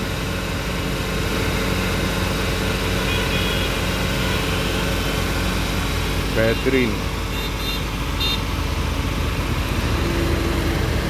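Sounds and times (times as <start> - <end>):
car engine at high revs: 0.0 - 11.0.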